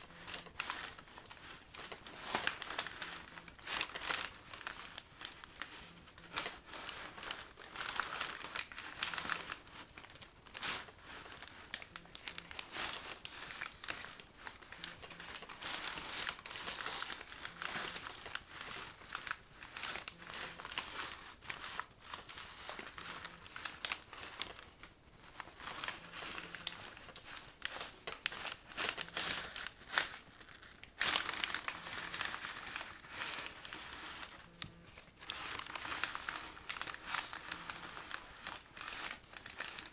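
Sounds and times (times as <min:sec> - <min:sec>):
paper bags rustling: 0:00.0 - 0:39.9.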